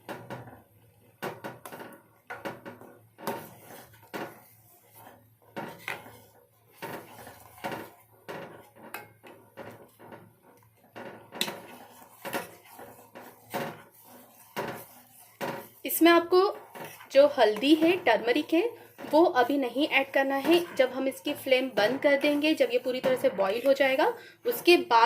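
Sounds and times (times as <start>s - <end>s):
spoon stirring in a pot: 0.1s - 25.0s.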